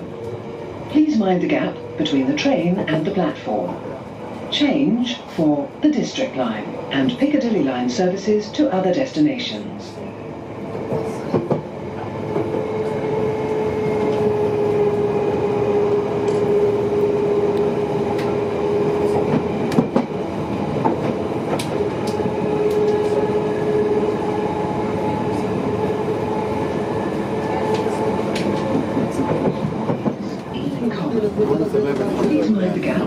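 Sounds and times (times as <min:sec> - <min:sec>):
train whine: 0:00.0 - 0:33.0
underground train running: 0:00.0 - 0:33.0.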